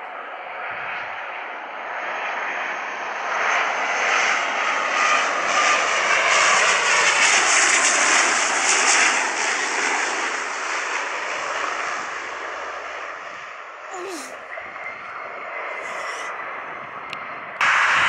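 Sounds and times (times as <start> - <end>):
aircraft engines passing: 0.0 - 18.0.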